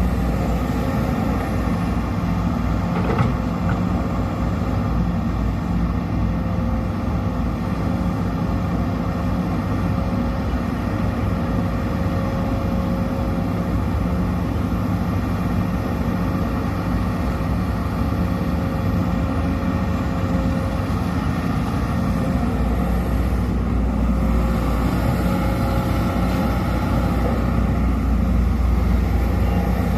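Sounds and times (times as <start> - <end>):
excavator diesel engine rumbling: 0.0 - 29.9.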